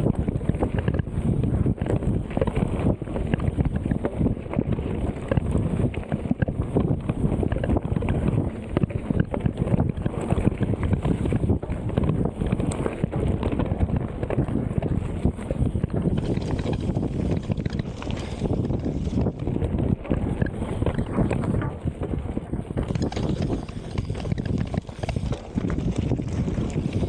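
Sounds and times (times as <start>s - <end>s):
bike rattling and knocking: 0.0s - 27.0s
wind noise on microphone: 0.0s - 27.0s.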